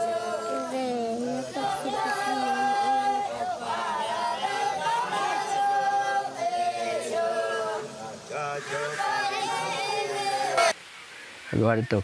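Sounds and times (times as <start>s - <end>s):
voices singing unaccompanied: 0.0s - 10.8s.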